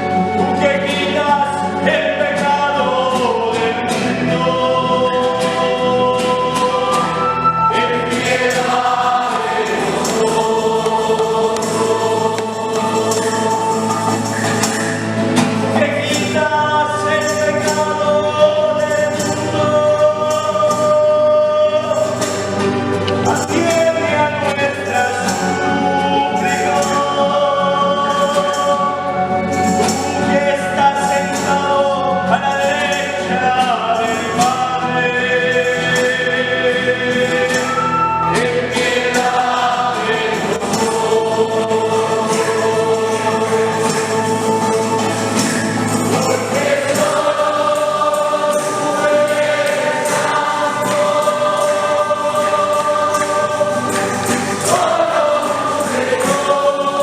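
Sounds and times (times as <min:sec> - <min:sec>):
accompanying instruments: 0:00.0 - 0:57.0
choir singing a hymn: 0:00.0 - 0:57.0
light percussion: 0:05.0 - 0:57.0.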